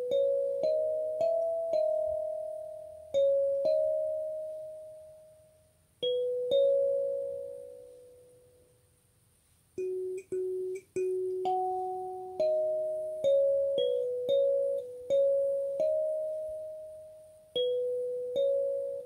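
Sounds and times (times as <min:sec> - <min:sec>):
kalimba melody: 0:00.0 - 0:08.2, 0:09.8 - 0:19.0.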